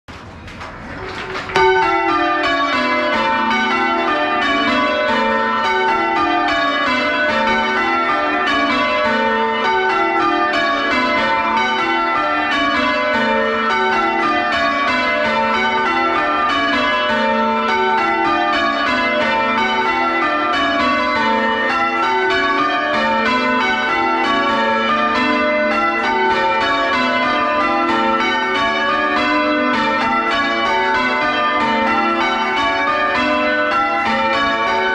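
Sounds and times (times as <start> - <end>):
church bells change-ringing: 1.3 - 34.9.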